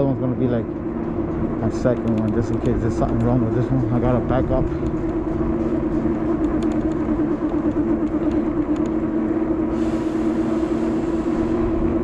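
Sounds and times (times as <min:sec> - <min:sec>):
low motor hum: 0:00.0 - 0:12.0
wind and road noise: 0:00.0 - 0:12.0.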